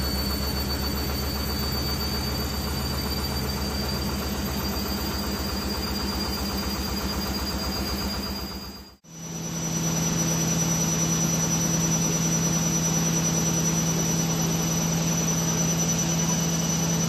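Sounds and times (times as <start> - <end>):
washing machine spin cycle: 0.0 - 17.0.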